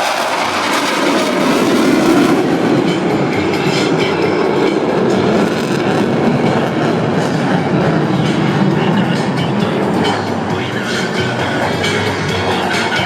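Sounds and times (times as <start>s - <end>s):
fighter jet engine noise: 0.0s - 13.0s.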